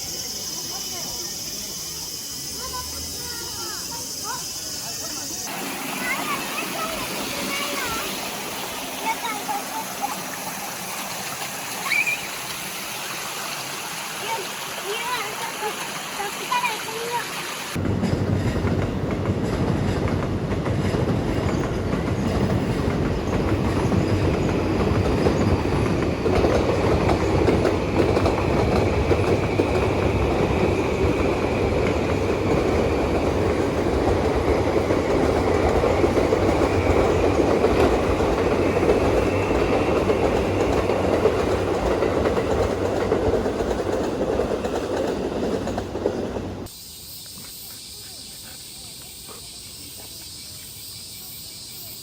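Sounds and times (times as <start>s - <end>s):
train wheels on rails: 0.0s - 52.0s.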